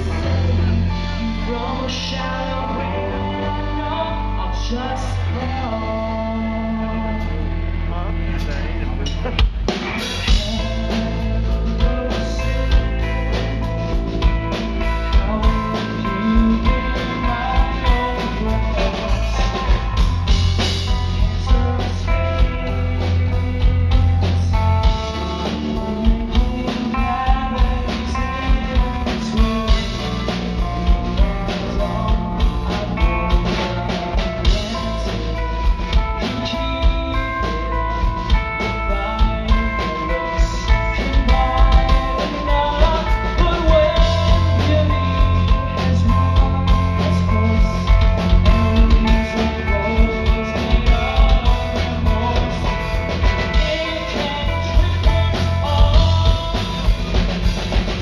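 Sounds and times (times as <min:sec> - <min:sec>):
man singing: 0:00.0 - 0:58.0
rock band playing: 0:00.0 - 0:58.0.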